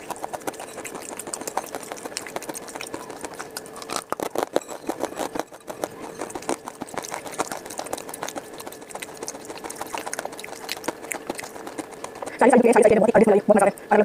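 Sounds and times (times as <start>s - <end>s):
crisp chewing crunches: 0.0s - 12.9s
fingers working sticky paste: 0.0s - 13.0s
faint steady hum: 0.0s - 14.0s.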